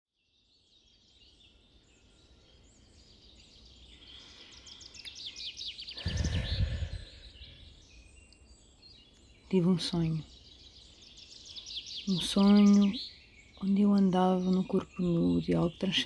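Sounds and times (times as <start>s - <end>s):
birds chirping: 0.3s - 16.0s.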